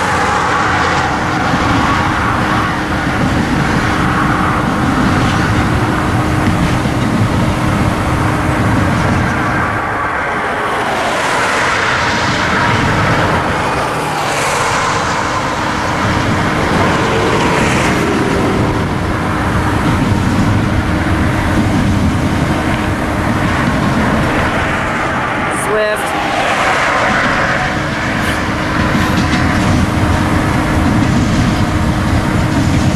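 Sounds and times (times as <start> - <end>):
steel wheels on rails: 0.0 - 32.9.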